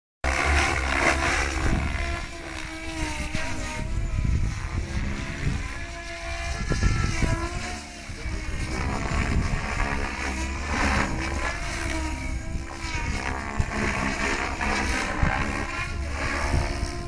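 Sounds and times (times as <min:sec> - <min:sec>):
model helicopter rotor whining: 0:00.2 - 0:17.0.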